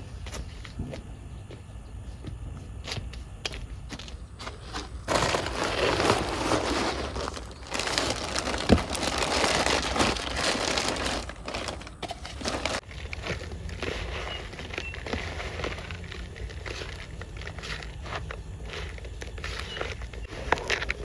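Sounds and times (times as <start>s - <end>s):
rustling and crunching: 0.0s - 21.0s.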